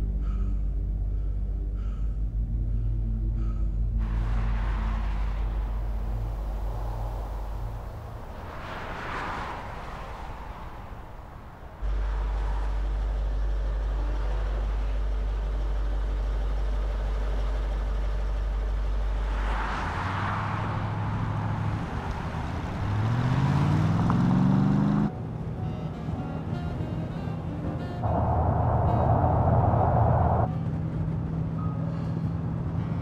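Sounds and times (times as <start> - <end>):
deep low drone: 0.0 - 33.0
car engine accelerating: 3.9 - 31.7.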